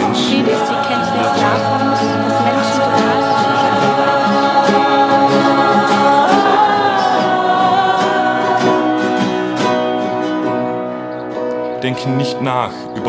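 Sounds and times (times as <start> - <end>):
choir-like singing: 0.0 - 11.1.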